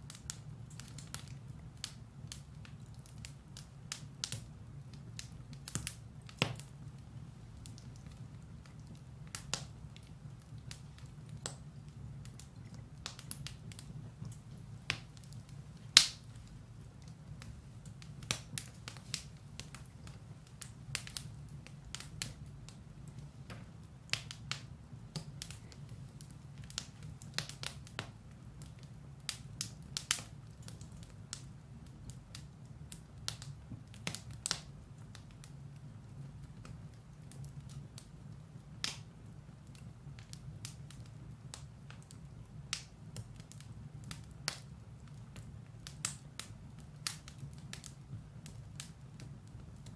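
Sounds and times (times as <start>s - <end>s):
firewood crackling and popping: 0.0s - 49.9s
low fire rumble: 0.0s - 49.9s.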